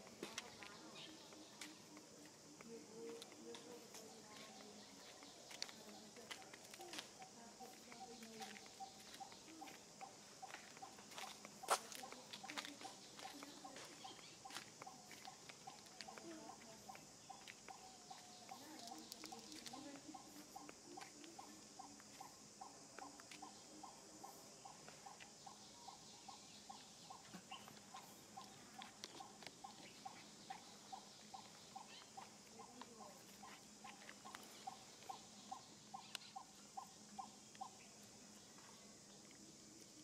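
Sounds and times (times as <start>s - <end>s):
high insect hiss: 0.0s - 40.0s.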